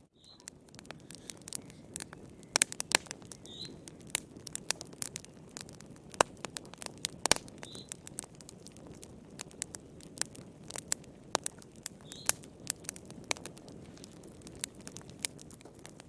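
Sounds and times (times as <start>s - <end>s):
campfire crackling and popping: 0.0s - 16.0s
low rush of flames: 0.1s - 16.0s.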